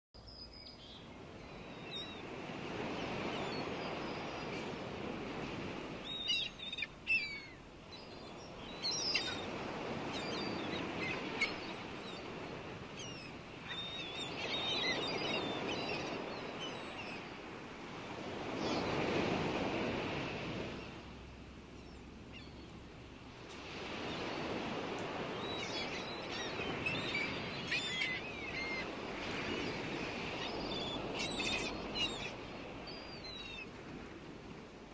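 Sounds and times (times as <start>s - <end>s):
birds chirping: 0.3s - 21.0s, 23.8s - 33.8s.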